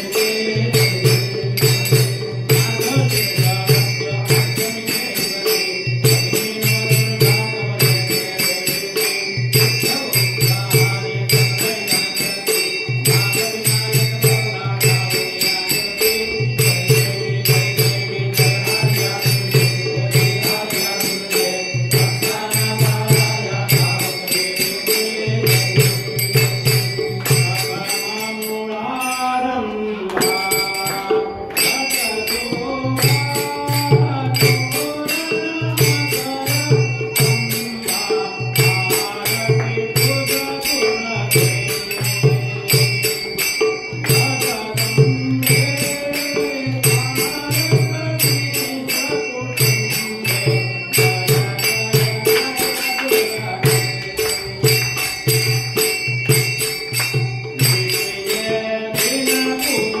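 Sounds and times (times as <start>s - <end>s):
bells and percussion ringing: 0.0s - 60.0s.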